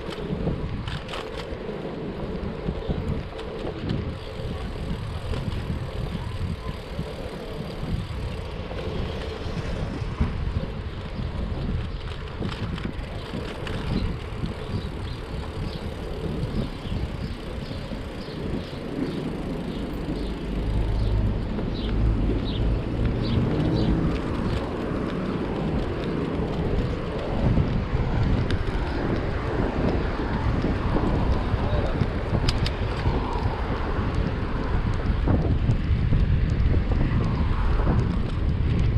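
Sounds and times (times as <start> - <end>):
street noise: 0.0 - 38.9
wind rushing over microphone: 0.0 - 38.9.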